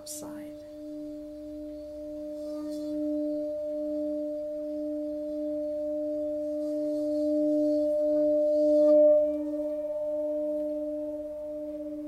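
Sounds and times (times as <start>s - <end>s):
singing bowl sustained note: 0.0s - 12.0s.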